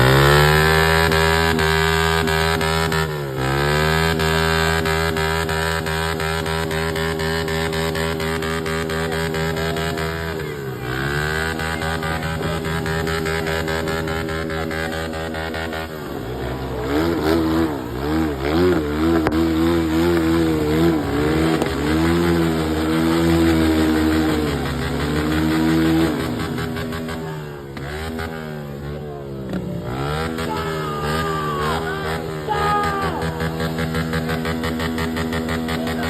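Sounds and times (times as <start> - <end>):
vehicle engine revving: 0.0 - 36.0.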